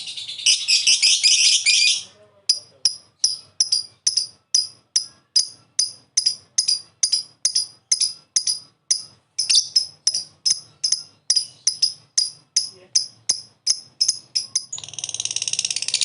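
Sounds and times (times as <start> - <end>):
bird high sharp chirps: 0.0 - 16.0.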